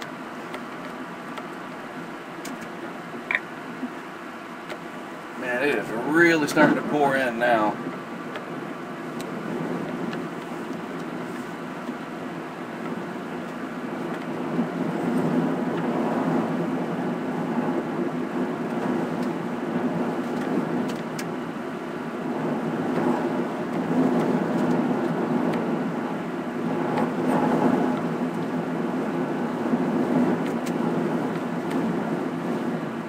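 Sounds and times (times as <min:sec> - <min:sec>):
wind and rain rushing: 0:00.0 - 0:33.0.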